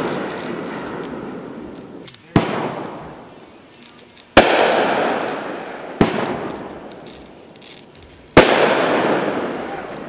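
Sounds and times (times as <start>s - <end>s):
firework bangs: 0.0s - 10.0s.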